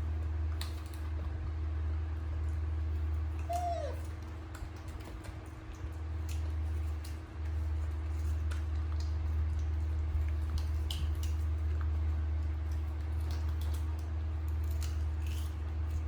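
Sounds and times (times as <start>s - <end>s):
pets chewing fruit: 0.0s - 16.0s
steady low hum: 0.0s - 16.0s.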